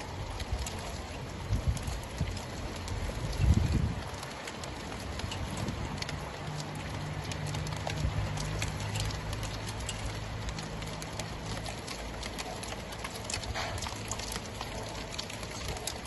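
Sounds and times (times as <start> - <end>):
rain and hail on roof: 0.0 - 16.0.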